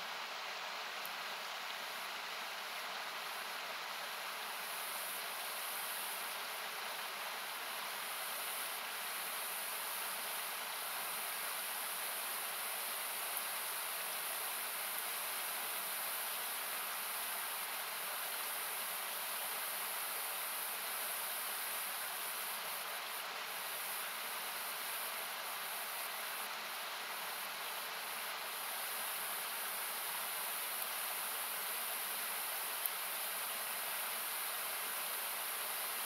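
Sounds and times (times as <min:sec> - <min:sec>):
faint campfire crackles: 0:00.0 - 0:36.0.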